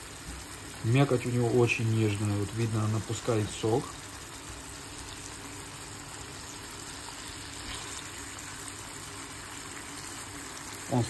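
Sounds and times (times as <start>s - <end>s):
mushrooms sizzling in oil: 0.0s - 11.0s.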